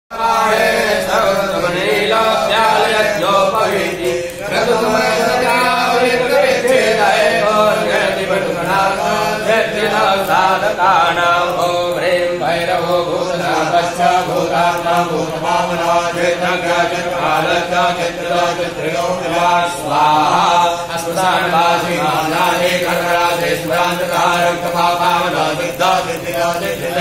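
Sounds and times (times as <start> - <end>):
men chanting: 0.1 - 27.0.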